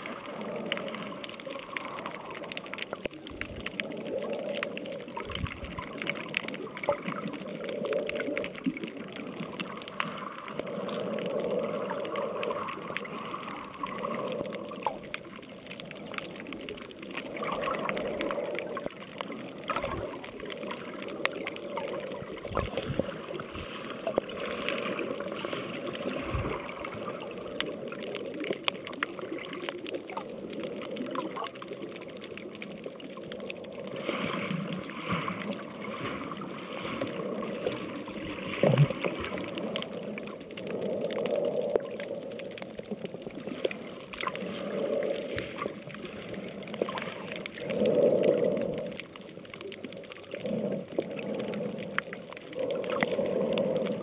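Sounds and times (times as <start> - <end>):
crackling clicks: 0.0 - 54.0
water sloshing and gurgling: 0.0 - 54.0.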